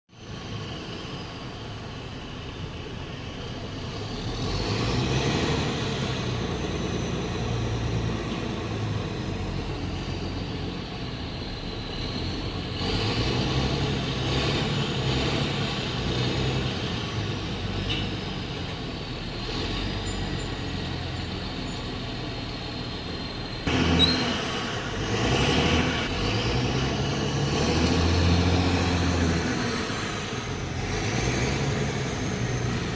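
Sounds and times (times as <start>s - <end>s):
diesel lorry engine revving: 0.2s - 32.9s.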